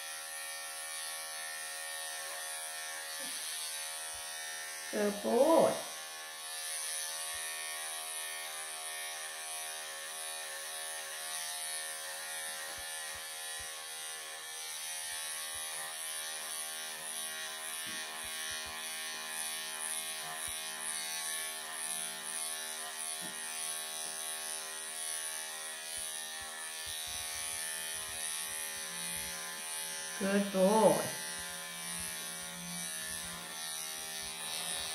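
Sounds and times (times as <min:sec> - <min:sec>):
electric pet clippers buzzing: 0:00.0 - 0:34.9.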